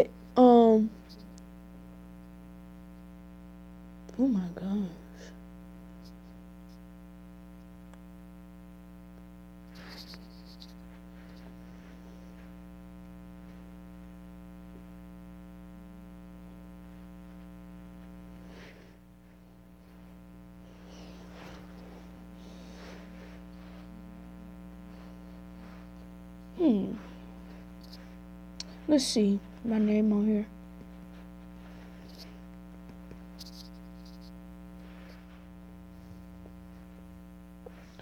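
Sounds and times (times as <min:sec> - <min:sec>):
faint mains hum: 0:00.0 - 0:38.0.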